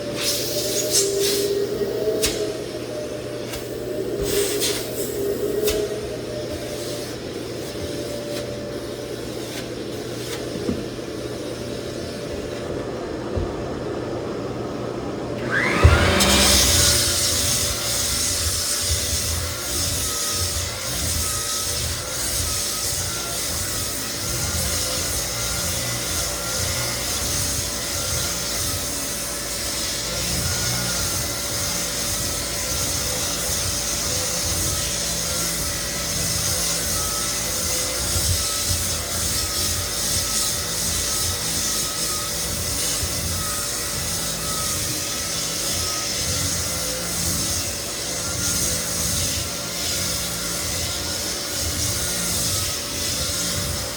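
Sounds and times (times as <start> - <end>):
floor sander grinding wood: 0.0 - 53.9
machine humming: 0.0 - 53.9.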